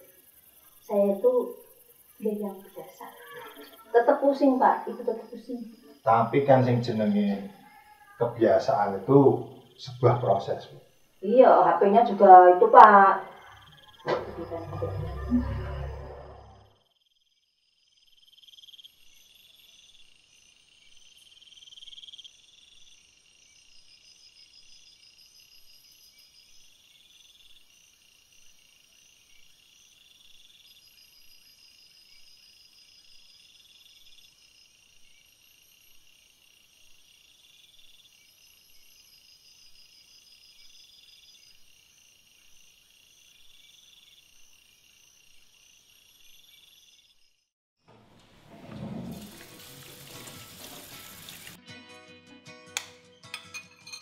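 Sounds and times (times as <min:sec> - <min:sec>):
faint night insects chirping: 0:00.0 - 0:51.6.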